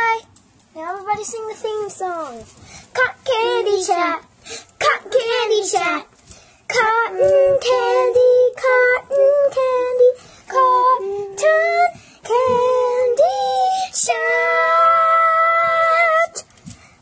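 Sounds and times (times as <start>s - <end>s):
child singing: 0.0s - 6.1s, 6.7s - 16.4s.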